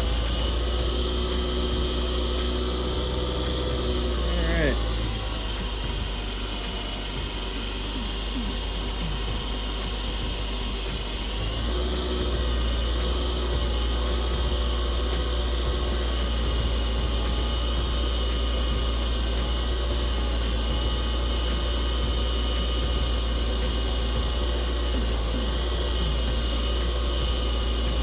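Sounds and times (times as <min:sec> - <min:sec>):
wood lathe motor hum: 0:00.0 - 0:28.0.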